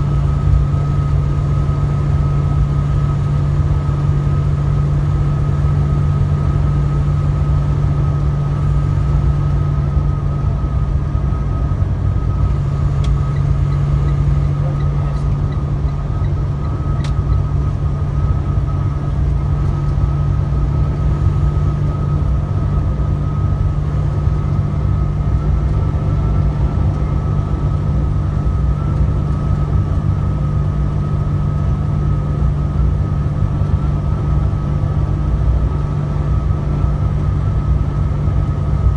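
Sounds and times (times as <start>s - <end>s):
truck engine drone: 0.0s - 38.9s.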